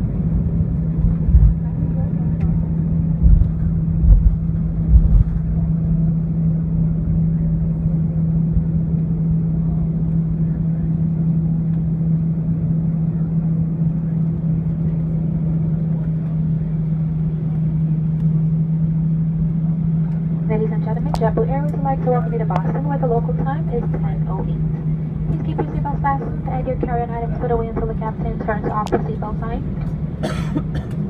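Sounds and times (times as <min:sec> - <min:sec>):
jet engine hum: 0:00.0 - 0:31.0
low rumble: 0:00.0 - 0:31.0.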